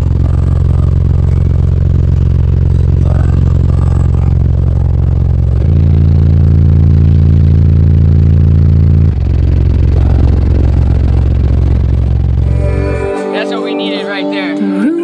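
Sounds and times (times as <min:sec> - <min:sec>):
loud subwoofer bass notes: 0:00.0 - 0:14.4.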